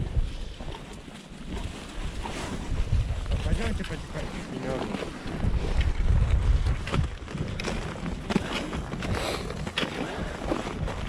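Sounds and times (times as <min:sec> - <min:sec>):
footsteps on a trail: 0:00.0 - 0:11.0
wind buffeting microphone: 0:00.0 - 0:11.0.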